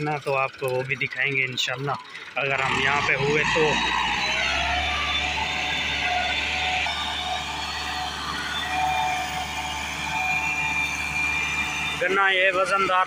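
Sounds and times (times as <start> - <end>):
tractor diesel engine under load: 0.0 - 13.0
high whine: 2.5 - 13.0.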